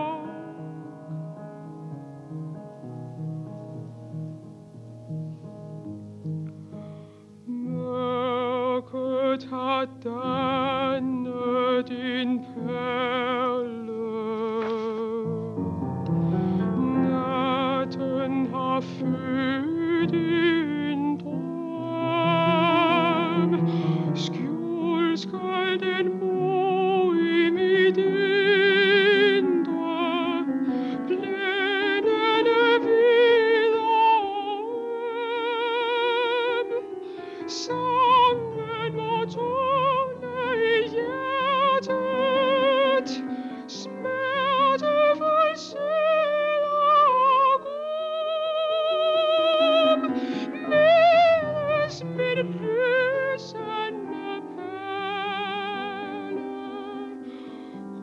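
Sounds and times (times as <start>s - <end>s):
piano accompaniment: 0.0s - 58.0s
woman singing classical style: 0.0s - 58.0s.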